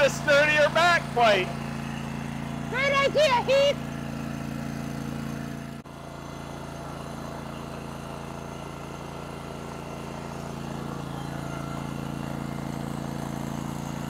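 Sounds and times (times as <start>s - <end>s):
gas engine droning: 0.0s - 14.0s.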